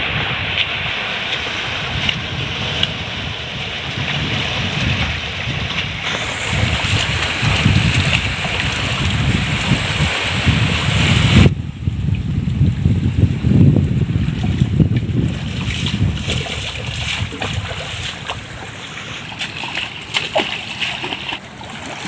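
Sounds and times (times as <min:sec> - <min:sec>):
shallow water washing: 0:00.0 - 0:22.0
wind buffeting microphone: 0:00.0 - 0:22.0.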